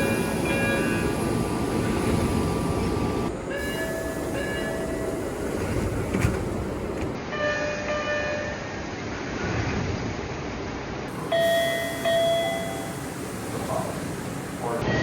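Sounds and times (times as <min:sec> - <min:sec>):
subway door chimes: 0:00.0 - 0:08.9, 0:11.1 - 0:15.0
train noise: 0:00.0 - 0:09.5, 0:11.1 - 0:15.0.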